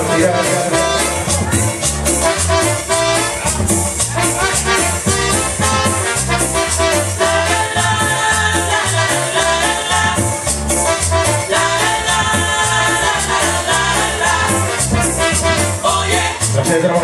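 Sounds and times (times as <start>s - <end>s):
latin dance music: 0.0s - 17.0s.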